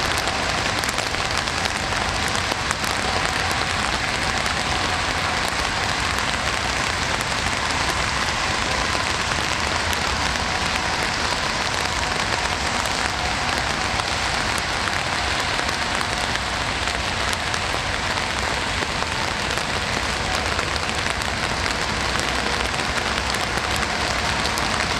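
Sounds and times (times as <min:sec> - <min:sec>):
rain drop ticks: 0:00.0 - 0:24.9
rain pattering: 0:00.0 - 0:24.9.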